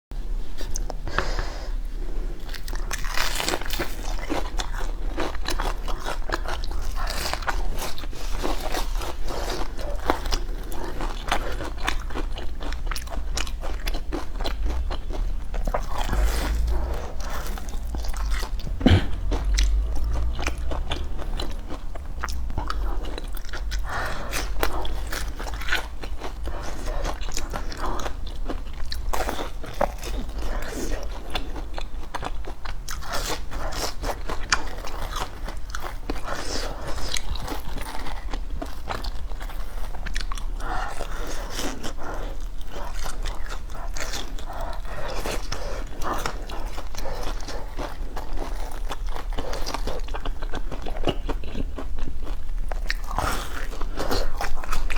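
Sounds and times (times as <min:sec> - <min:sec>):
person chewing crunchy food: 0:02.4 - 0:54.9.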